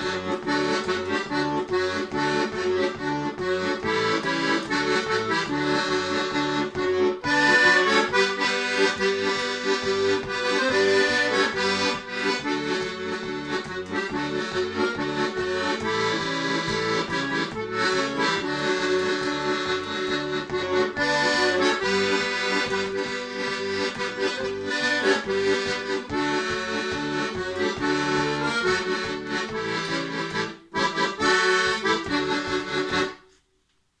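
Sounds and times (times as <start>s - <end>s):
accordion playing a tune: 0.0s - 33.5s.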